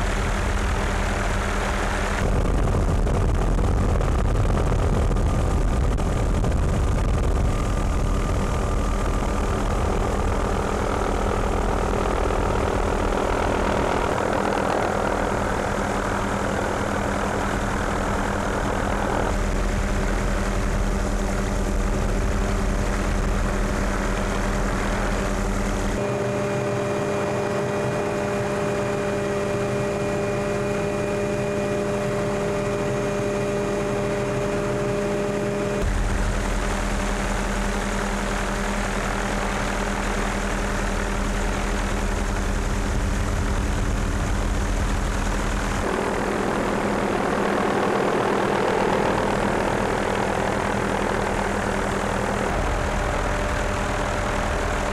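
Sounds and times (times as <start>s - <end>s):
helicopter engine and rotor drone: 0.0s - 54.9s
helicopter whine: 0.0s - 54.9s.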